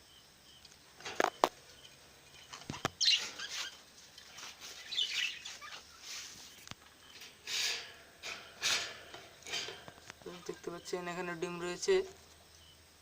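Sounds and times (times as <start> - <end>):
parrots chirping and chattering: 0.6 - 12.8.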